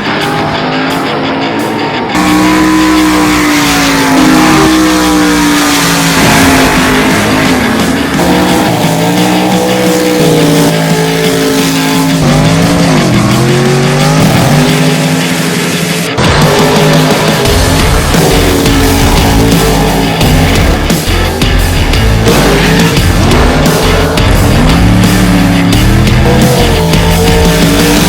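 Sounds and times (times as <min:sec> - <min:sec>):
heavy rock music: 0:00.0 - 0:28.0
race car engine revving: 0:00.0 - 0:28.0
loud hissing roar: 0:02.1 - 0:28.0.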